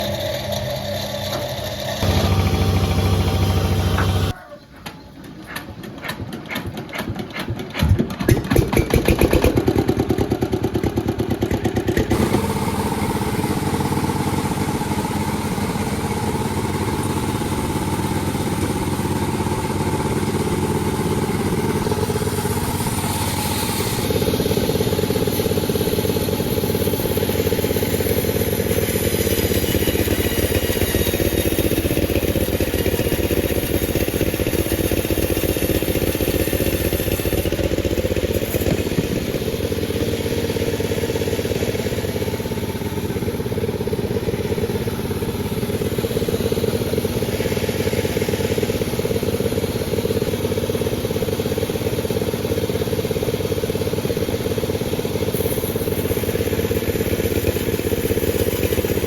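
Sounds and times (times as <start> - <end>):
chainsaw engine: 0.0 - 4.4, 6.2 - 59.0.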